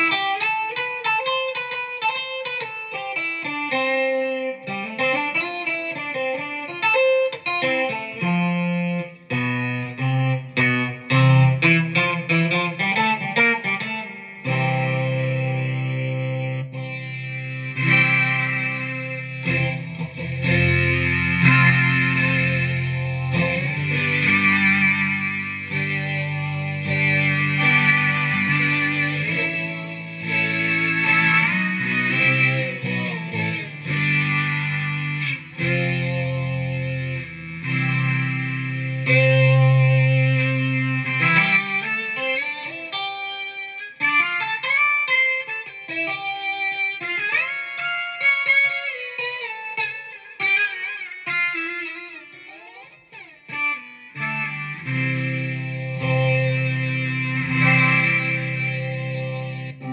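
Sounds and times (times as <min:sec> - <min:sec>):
electric guitar synth tones: 0:00.0 - 0:59.9.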